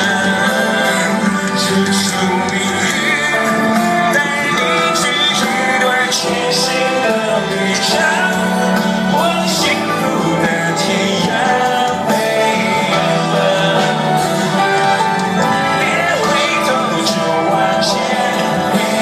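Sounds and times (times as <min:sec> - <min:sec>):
live rock band: 0:00.0 - 0:19.0
male lead vocal: 0:00.0 - 0:19.0.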